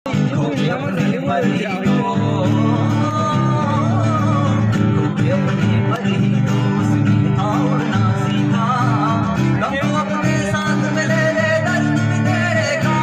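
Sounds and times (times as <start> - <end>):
person singing: 0.1 - 13.0
strummed acoustic guitar: 0.1 - 13.0.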